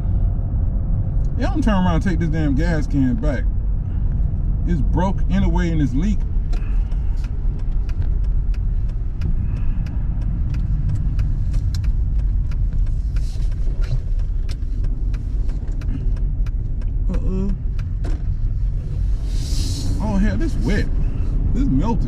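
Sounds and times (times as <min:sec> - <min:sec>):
car road rumble: 0:00.0 - 0:22.0
tyres ticking over snow: 0:01.5 - 0:22.0.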